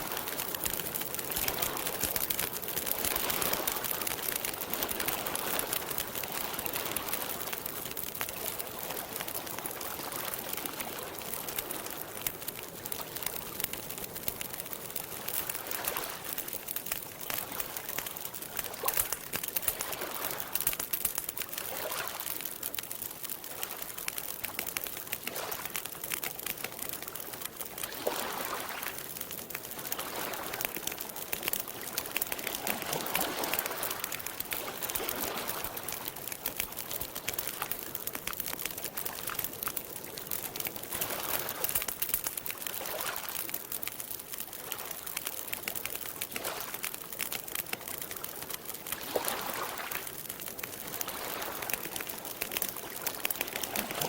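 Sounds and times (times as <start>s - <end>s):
campfire crackling: 0.0s - 54.0s
water lapping at shore: 0.0s - 54.0s.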